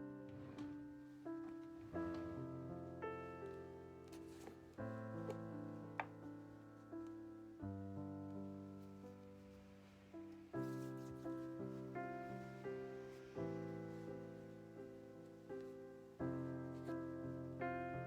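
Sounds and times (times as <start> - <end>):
soft slow piano music: 0.0 - 18.0.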